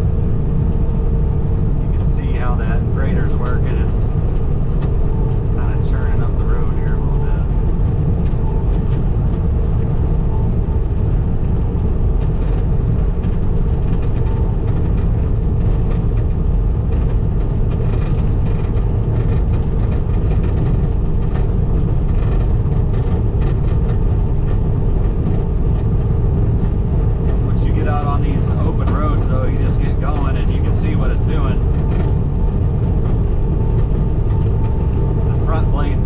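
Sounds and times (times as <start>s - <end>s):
diesel engine running under load: 0.0s - 36.0s.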